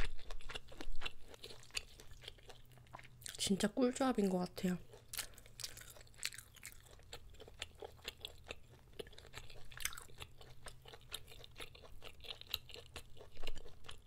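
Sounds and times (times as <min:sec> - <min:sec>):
close-miked chewing: 0:00.0 - 0:14.0.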